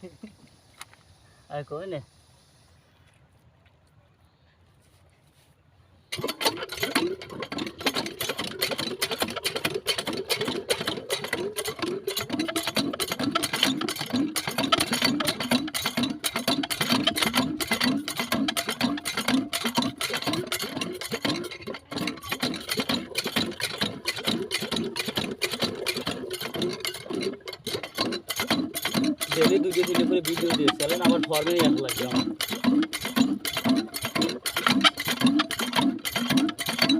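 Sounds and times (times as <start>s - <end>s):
small diesel engine clattering: 6.1s - 36.9s.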